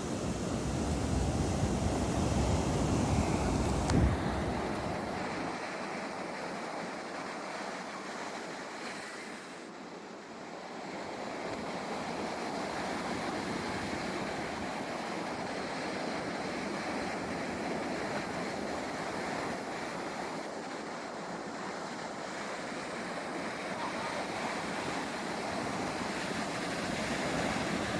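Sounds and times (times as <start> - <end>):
ocean waves breaking: 0.0 - 9.7, 11.2 - 27.9.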